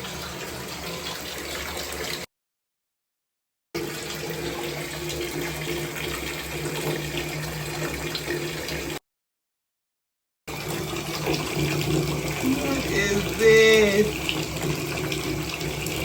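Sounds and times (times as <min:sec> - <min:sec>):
water running from bathtub spout: 0:00.0 - 0:02.3, 0:03.8 - 0:09.0, 0:10.5 - 0:16.0.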